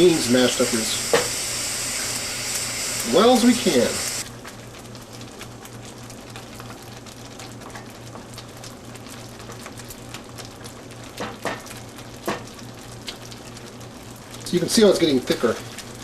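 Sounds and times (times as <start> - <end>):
beans sizzling in frying pan: 0.0 - 16.0.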